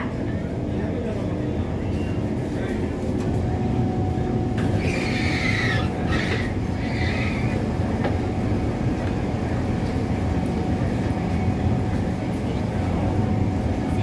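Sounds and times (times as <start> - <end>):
low hum of stationary train: 0.0 - 14.0.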